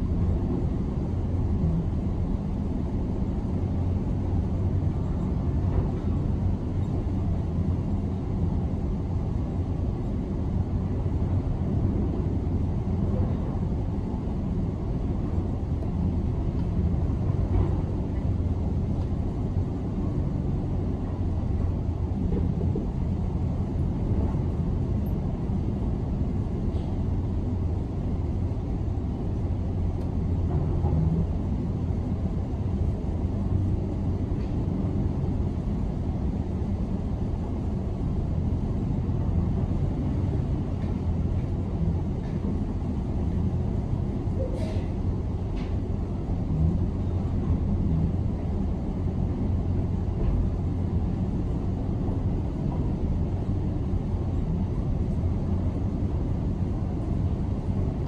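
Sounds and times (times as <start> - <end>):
muffled demolition machinery rumble: 0.0 - 58.0.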